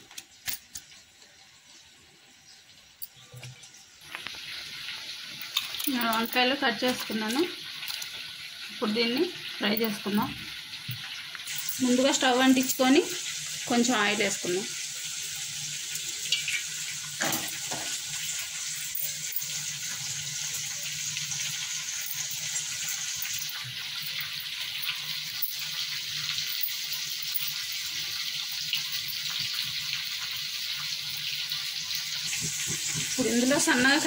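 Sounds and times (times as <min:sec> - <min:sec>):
gas stove burner hissing: 0:04.0 - 0:34.0.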